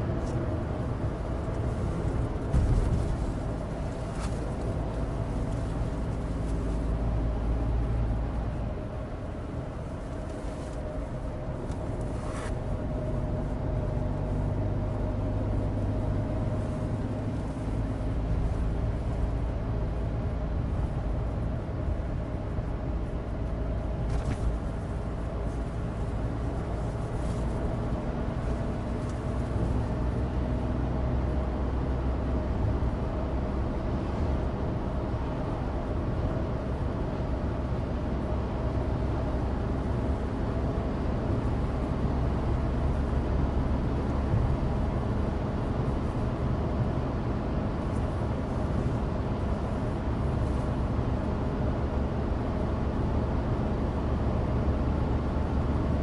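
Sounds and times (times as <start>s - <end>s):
tyre and road noise: 0.0s - 56.0s.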